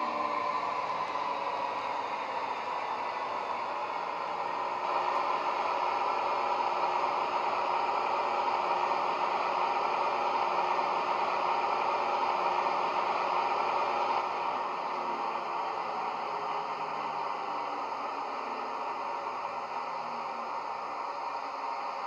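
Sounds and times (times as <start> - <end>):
model diesel locomotive engine sound: 0.0 - 22.0.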